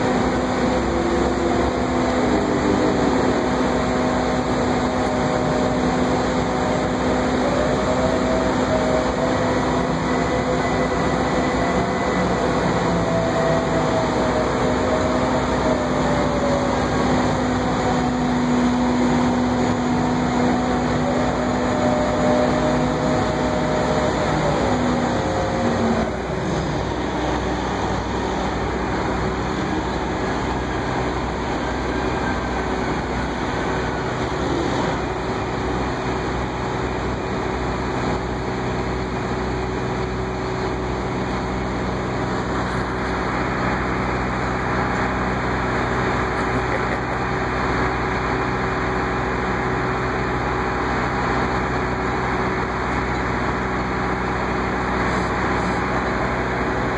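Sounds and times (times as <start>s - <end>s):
crane engine drone with whine: 0.0s - 56.9s.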